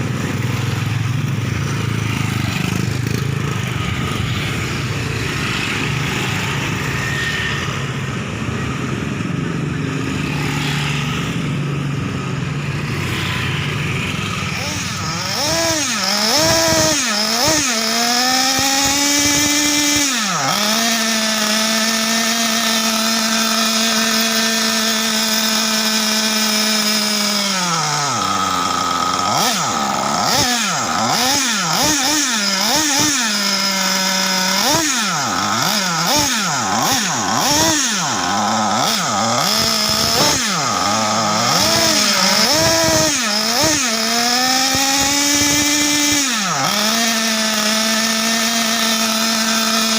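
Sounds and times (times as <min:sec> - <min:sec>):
small engine revving whine: 0:00.0 - 0:49.9.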